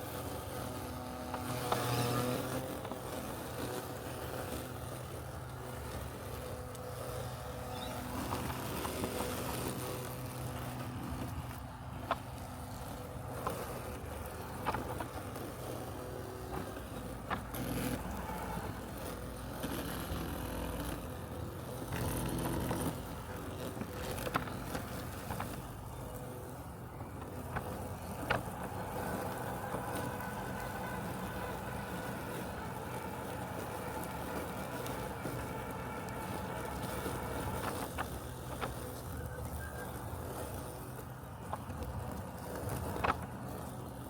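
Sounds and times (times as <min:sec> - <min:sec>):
robotic lawn mower humming: 0:00.0 - 0:44.0.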